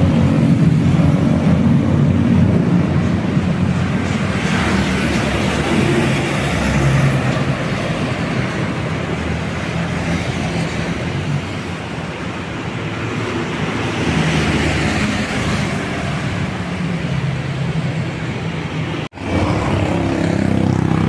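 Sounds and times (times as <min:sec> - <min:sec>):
heavy vehicle engine hum: 0:00.0 - 0:21.0
tyres rushing on road: 0:00.0 - 0:21.0.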